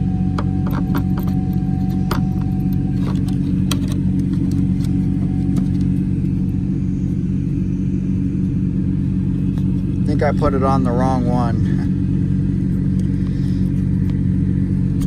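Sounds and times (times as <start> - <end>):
low engine-like rumble: 0.0 - 15.0.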